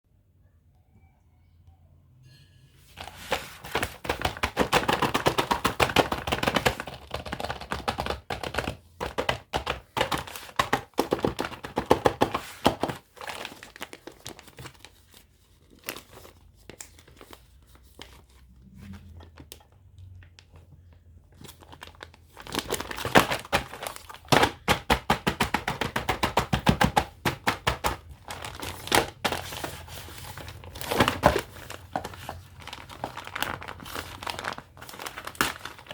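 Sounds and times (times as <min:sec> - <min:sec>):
plastic packaging crinkling: 0:03.0 - 0:35.9.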